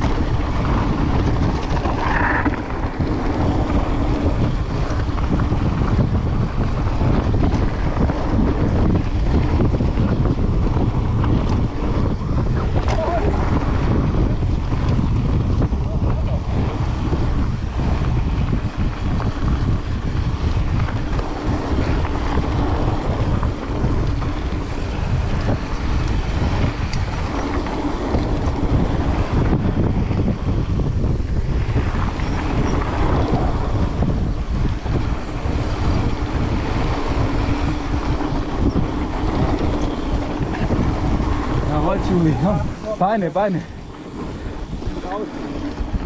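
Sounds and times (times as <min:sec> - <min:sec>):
bike tyre rumble and rattling: 0:00.0 - 0:46.0
wind on microphone: 0:00.0 - 0:46.0.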